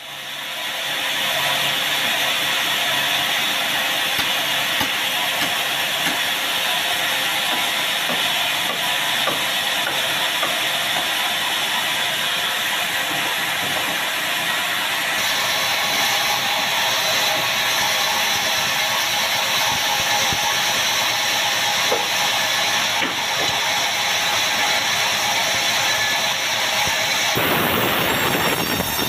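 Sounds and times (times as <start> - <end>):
band saw running: 0.0 - 29.0.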